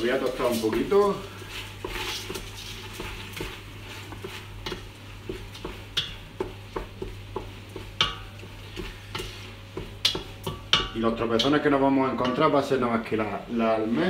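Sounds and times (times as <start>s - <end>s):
wooden spoon scraping a pot: 0.0s - 12.5s
light sizzle: 0.0s - 14.0s.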